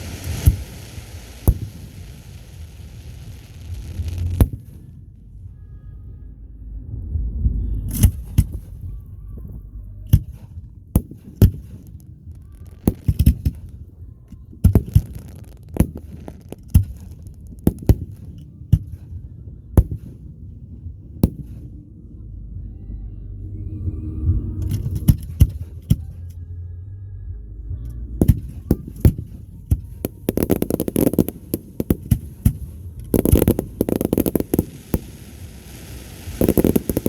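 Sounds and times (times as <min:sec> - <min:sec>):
fireworks bangs: 0:00.0 - 0:05.6, 0:07.9 - 0:21.8, 0:24.6 - 0:26.2, 0:28.2 - 0:37.0
low rumble: 0:00.0 - 0:37.0.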